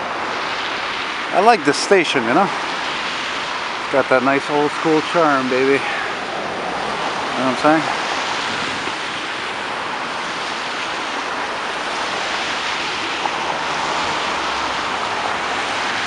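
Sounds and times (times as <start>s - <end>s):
city street traffic: 0.0s - 16.0s
vehicle engine hum: 0.0s - 16.0s.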